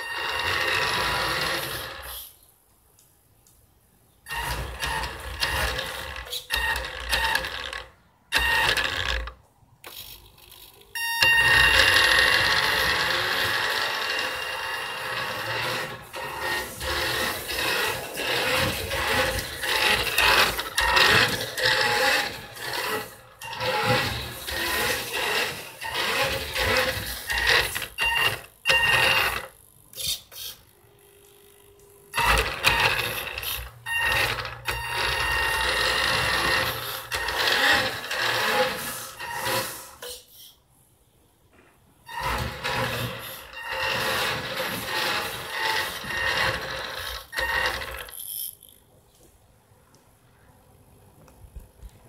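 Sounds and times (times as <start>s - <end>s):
toy car motor whining: 0.0s - 2.5s, 4.2s - 40.6s, 42.1s - 48.8s.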